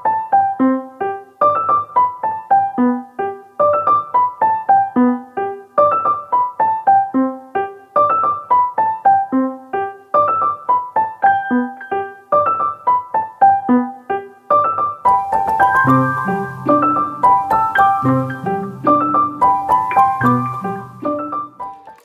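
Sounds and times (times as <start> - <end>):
light piano tune: 0.0 - 22.0.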